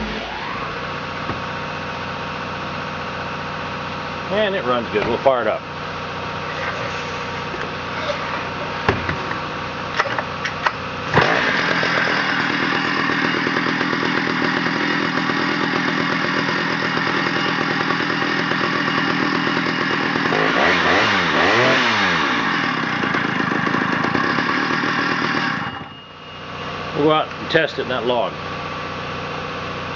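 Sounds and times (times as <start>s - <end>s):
chainsaw engine running: 0.0s - 29.9s.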